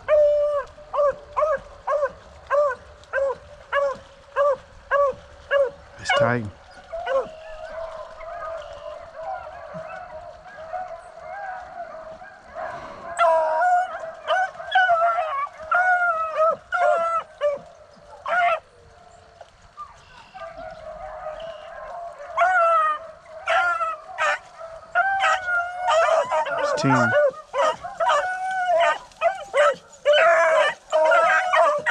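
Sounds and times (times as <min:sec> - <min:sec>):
hounds baying: 0:00.0 - 0:31.9.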